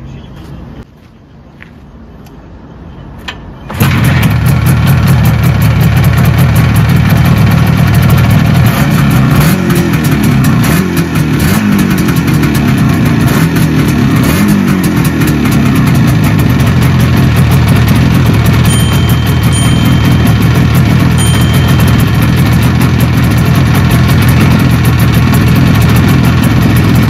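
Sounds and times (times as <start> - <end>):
motorcycle engine starting and running: 3.6 - 27.0.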